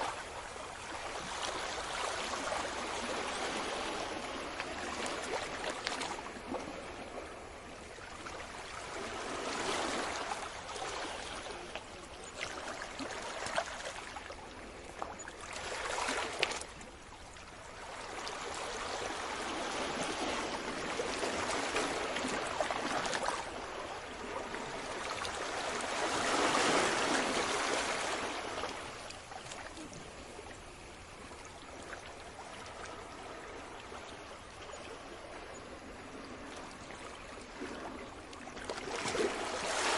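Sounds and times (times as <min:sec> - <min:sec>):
sea waves washing in: 0:00.0 - 0:11.8, 0:17.6 - 0:31.2, 0:32.4 - 0:39.9.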